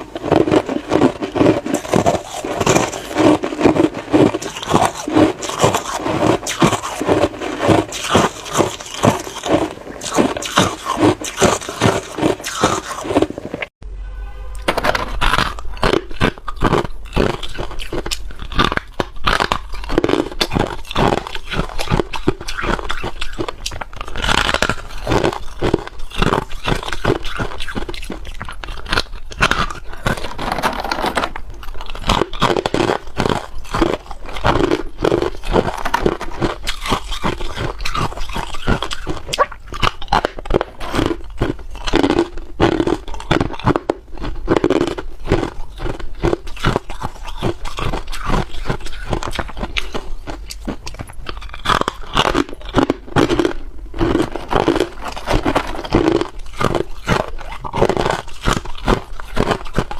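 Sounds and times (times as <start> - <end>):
person crunching ice: 0.0 - 13.7, 14.6 - 59.9.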